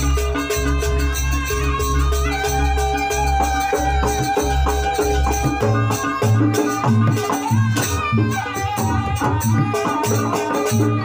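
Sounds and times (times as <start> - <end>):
drums and metallic percussion: 0.0 - 11.0.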